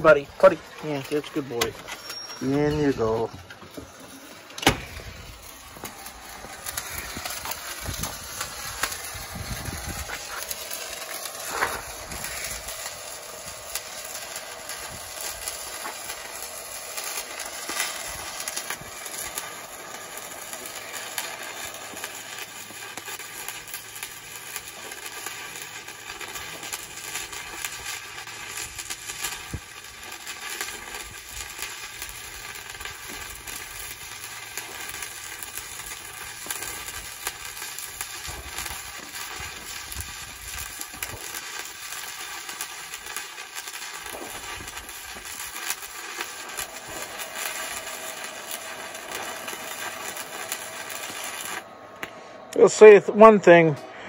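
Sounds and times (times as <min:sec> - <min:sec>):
welding arc crackling and hissing: 0:00.0 - 0:53.8.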